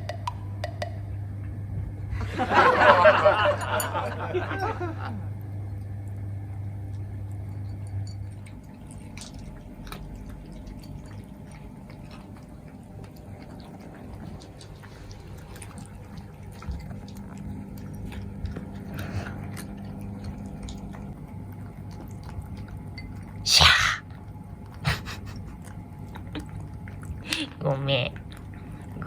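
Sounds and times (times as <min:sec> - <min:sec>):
steady low hum: 0:00.0 - 0:29.0
cats chewing and lapping: 0:03.5 - 0:29.0.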